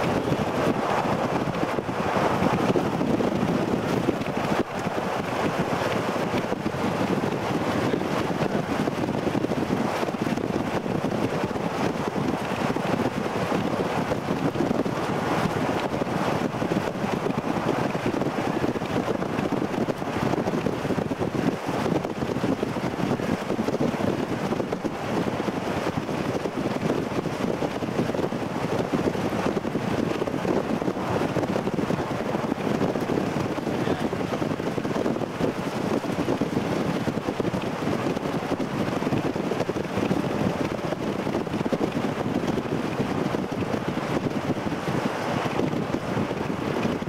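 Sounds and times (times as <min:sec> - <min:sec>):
wind buffeting microphone: 0:00.0 - 0:47.0
wind rush: 0:00.0 - 0:47.0.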